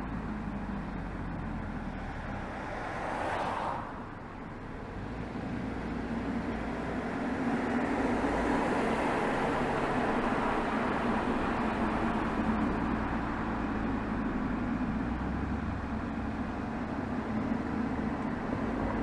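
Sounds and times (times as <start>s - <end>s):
car exhaust while driving: 0.0s - 19.0s
road noise: 0.0s - 19.0s.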